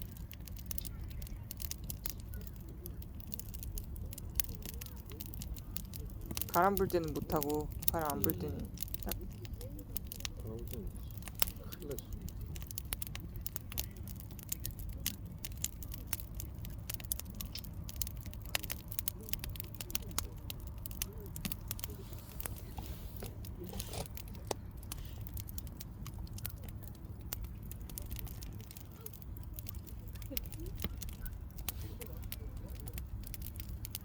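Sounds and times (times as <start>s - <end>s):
logs popping and snapping: 0.0s - 34.0s
wood fire crackling: 0.0s - 34.0s.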